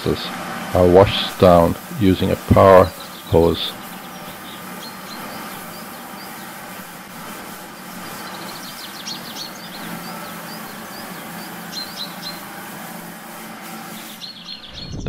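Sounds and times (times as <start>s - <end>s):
birds chirping: 0.0s - 13.0s, 13.8s - 15.0s
power hose spraying water: 0.0s - 14.6s
low machine hum: 0.0s - 15.0s.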